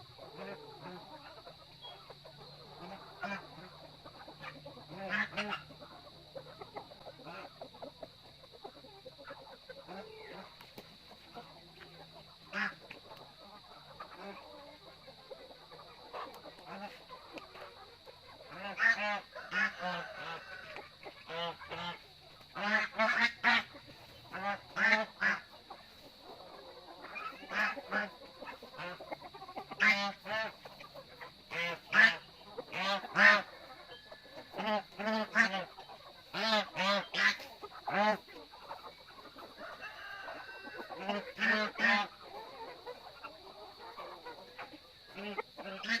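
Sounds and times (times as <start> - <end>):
waterfowl honking and quacking: 0.0 - 46.0.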